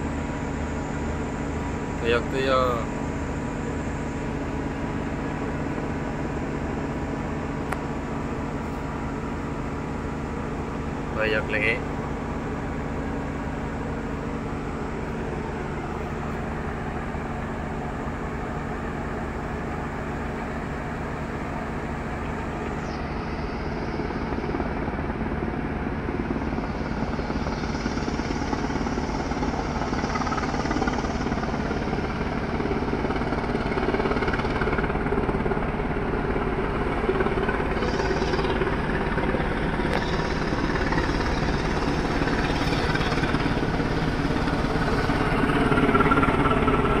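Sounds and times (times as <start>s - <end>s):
helicopter rotor and engine: 0.0s - 47.0s.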